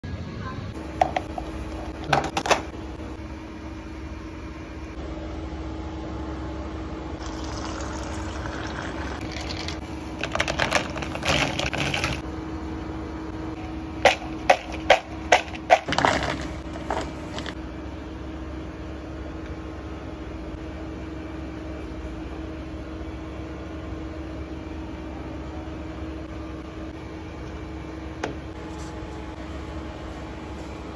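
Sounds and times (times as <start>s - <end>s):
kitchen machine hum: 0.0s - 30.9s.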